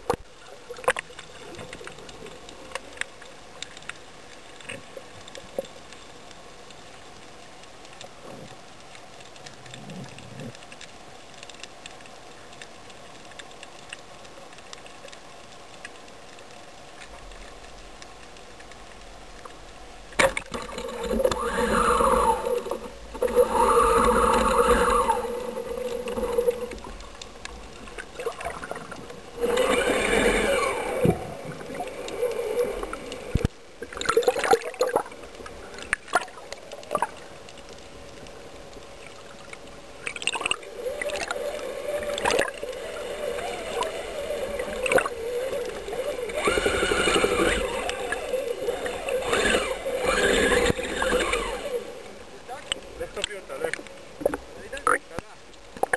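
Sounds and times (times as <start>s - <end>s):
bubbling and splashing: 0.0s - 5.9s, 16.9s - 55.9s
water gurgling and sloshing: 0.0s - 55.9s.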